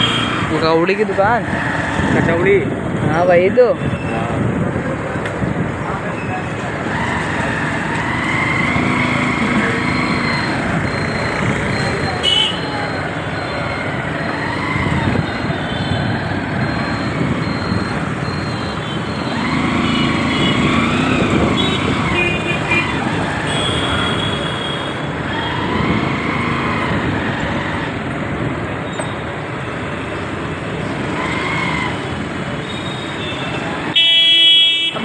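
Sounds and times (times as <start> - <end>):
city road traffic noise: 0.0 - 35.0.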